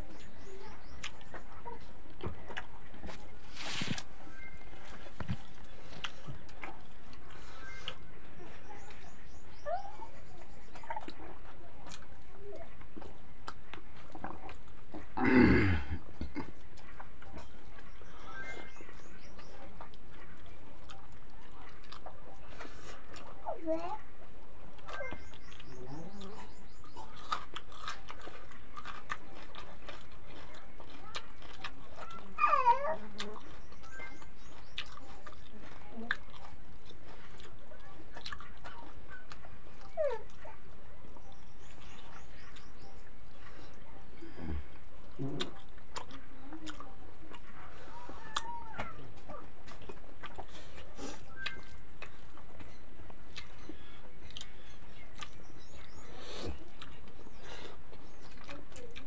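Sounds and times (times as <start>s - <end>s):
chewing and mouth smacks: 0.0s - 9.4s, 10.2s - 15.2s, 24.2s - 59.0s.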